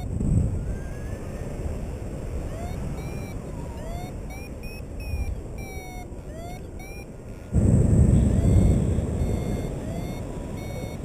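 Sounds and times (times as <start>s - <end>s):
variometer beeping: 0.0s - 1.2s, 2.3s - 11.0s
wind rushing across microphone: 0.0s - 11.0s.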